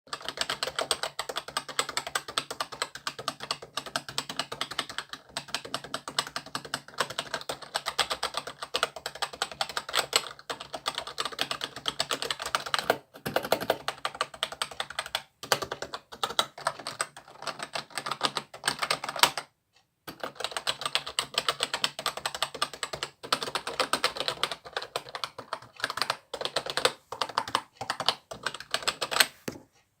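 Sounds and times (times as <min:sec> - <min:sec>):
keyboard keys clacking: 0:00.2 - 0:19.4, 0:20.1 - 0:29.7.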